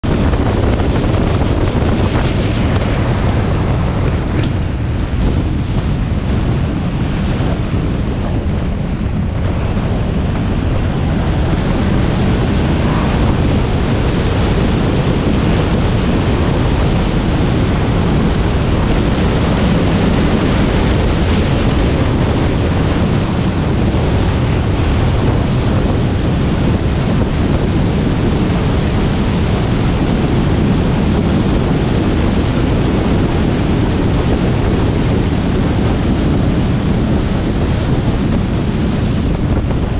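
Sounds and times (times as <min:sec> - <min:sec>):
car road noise: 0:00.0 - 0:39.9
wind noise on microphone: 0:00.0 - 0:39.9.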